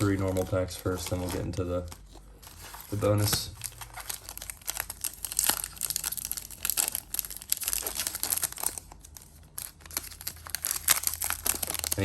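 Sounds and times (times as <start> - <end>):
cellophane wrapper crinkling: 0.0 - 12.0.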